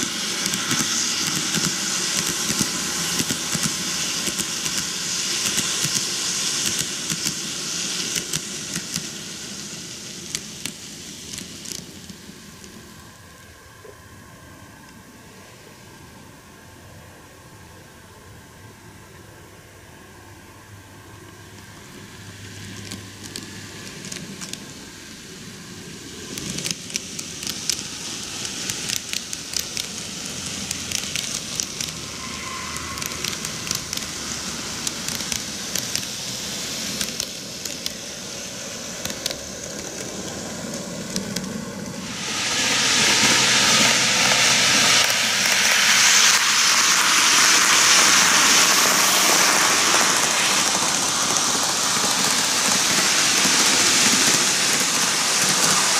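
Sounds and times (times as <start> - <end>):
model train wheels clicking and rattling: 0.0 - 13.6, 21.1 - 55.9.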